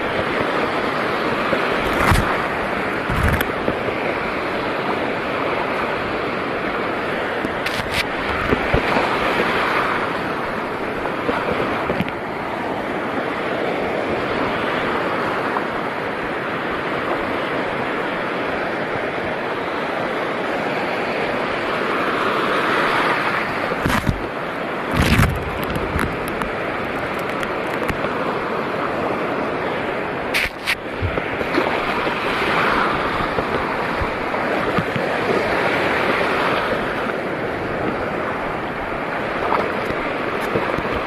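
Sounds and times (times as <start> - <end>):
wind buffeting microphone: 0.0 - 20.2, 23.0 - 41.0
sea water rushing: 0.0 - 41.0.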